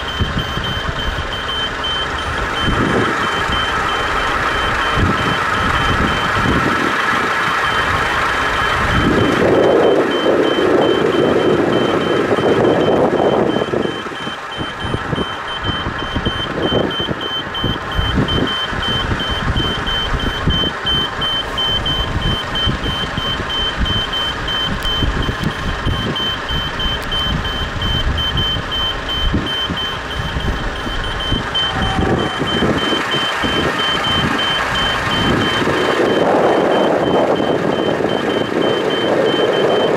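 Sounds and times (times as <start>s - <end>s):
level crossing beeps: 0.0s - 6.7s, 7.6s - 39.9s
loud uneven rumble: 0.0s - 17.0s, 17.8s - 38.6s.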